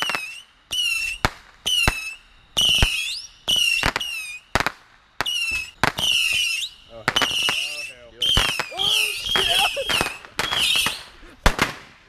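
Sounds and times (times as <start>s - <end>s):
whistling fireworks: 0.0s - 12.0s.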